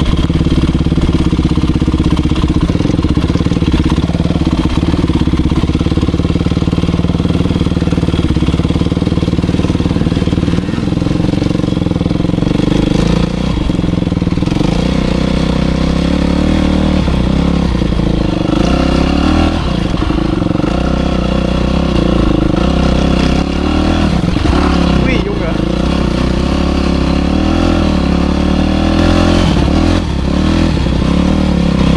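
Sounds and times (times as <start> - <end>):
motocross bike engine revving: 0.0 - 31.9.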